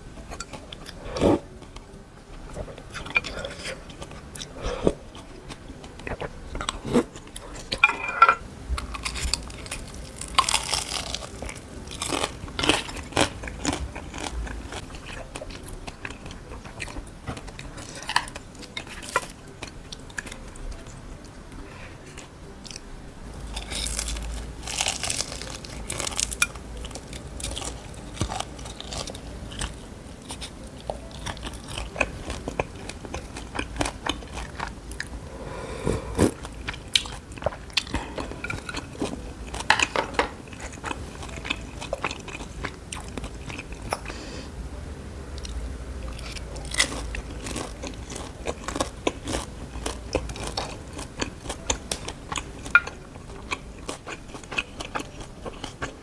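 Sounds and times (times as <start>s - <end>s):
crunching and chewing fried food: 0.0s - 7.9s, 8.8s - 44.5s, 45.4s - 56.0s.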